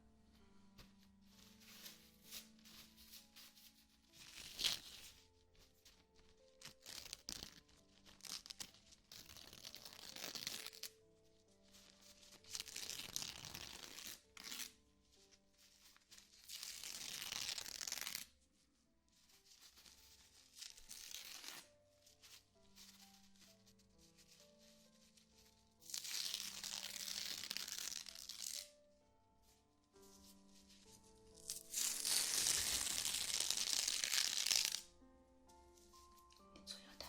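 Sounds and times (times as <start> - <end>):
quiet ambient music: 0.0 - 37.0
rubbing and crinkling: 0.4 - 34.9.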